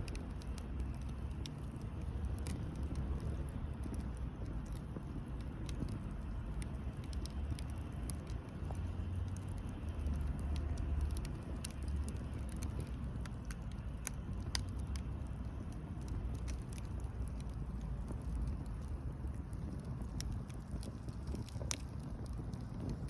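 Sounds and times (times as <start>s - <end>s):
firewood crackling and popping: 0.0s - 23.0s
low rumble of fire: 0.0s - 23.0s.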